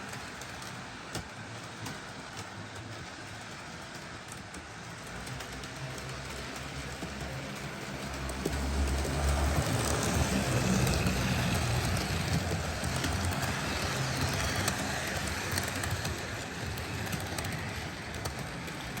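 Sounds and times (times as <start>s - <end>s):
model train running on track: 0.0s - 19.0s.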